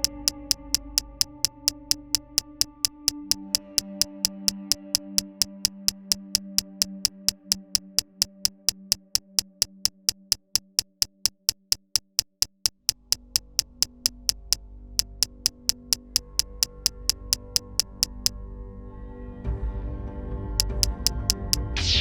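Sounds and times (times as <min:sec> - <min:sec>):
fast ticking electronic beat: 0:00.0 - 0:18.3, 0:20.6 - 0:21.8.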